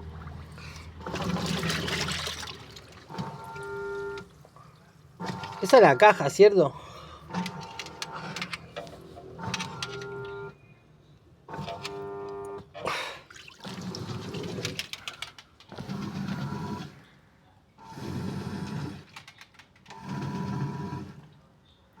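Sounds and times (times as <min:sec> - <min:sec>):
washing machine agitating: 0:00.0 - 0:10.5, 0:11.5 - 0:17.2, 0:17.9 - 0:21.3.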